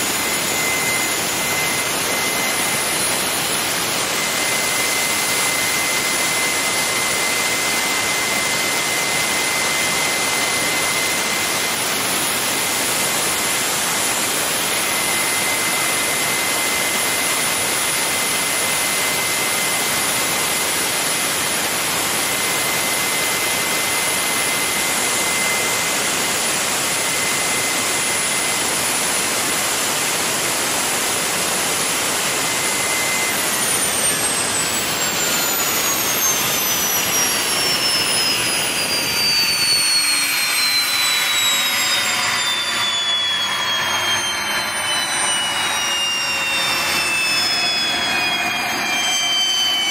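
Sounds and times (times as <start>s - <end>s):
gas turbine roar: 0.0s - 49.9s
high-pitched turbine whine: 0.0s - 49.9s.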